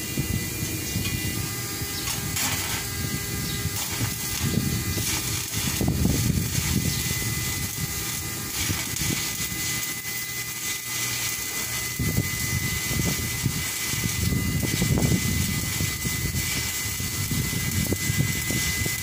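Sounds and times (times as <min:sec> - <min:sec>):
welding arc crackling: 0:00.0 - 0:19.0.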